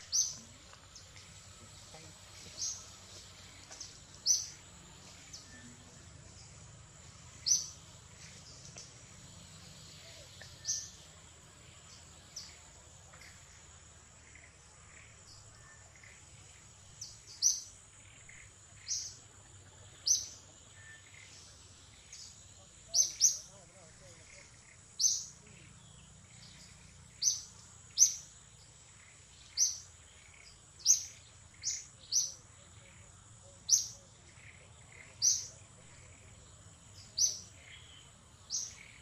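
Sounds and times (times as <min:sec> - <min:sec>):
steady high insect drone: 0:00.0 - 0:39.0.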